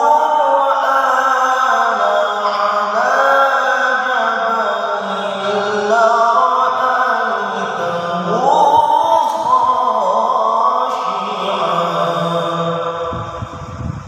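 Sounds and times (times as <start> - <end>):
person reciting in melodic chant: 0.0 - 14.0.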